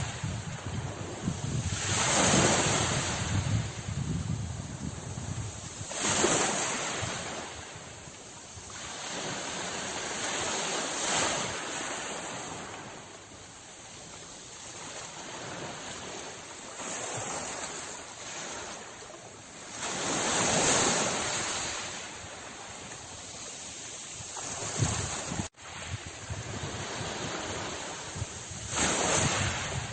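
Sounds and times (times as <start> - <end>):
sea waves breaking on shore: 0.0 - 29.9.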